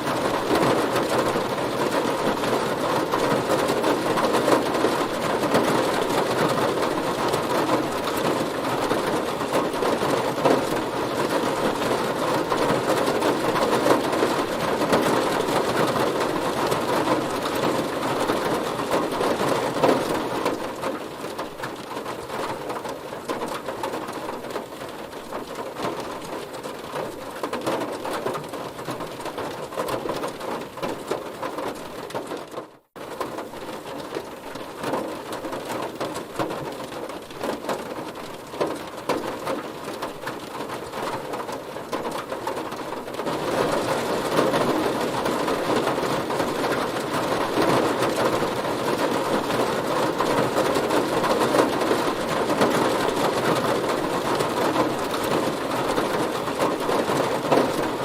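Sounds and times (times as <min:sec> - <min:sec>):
heavy rain on a car: 0:00.0 - 0:58.0.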